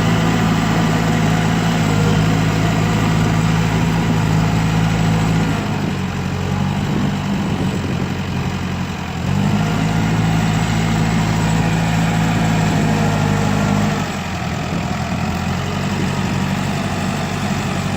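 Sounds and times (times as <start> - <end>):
bulldozer diesel engine running: 0.0 - 17.9.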